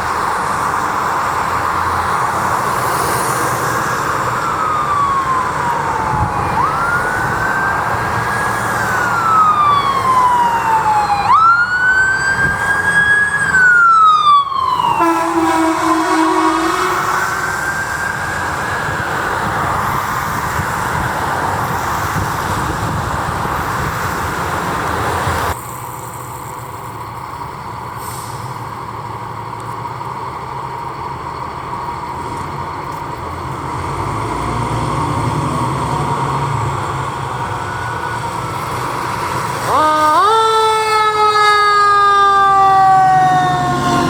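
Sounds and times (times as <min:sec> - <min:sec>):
emergency vehicle siren: 0:00.0 - 0:25.6, 0:33.2 - 0:44.0
heavy engine and road noise: 0:00.0 - 0:44.0
traffic noise: 0:00.0 - 0:44.0
vehicle engine: 0:00.0 - 0:44.0.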